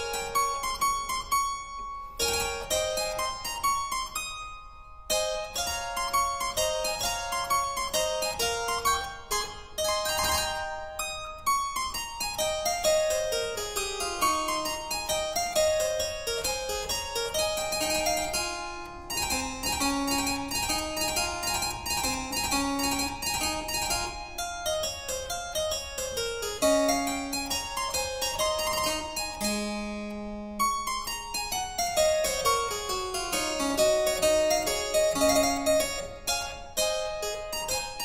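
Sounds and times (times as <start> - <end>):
instrumental music: 0.0 - 38.0.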